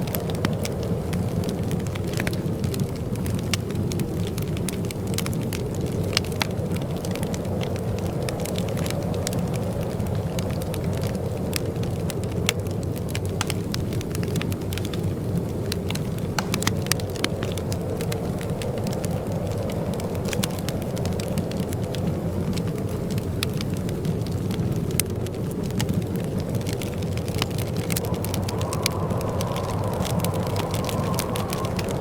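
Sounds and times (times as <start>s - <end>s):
fire pops and snaps: 0.0s - 32.0s
wood fire crackling: 0.0s - 32.0s.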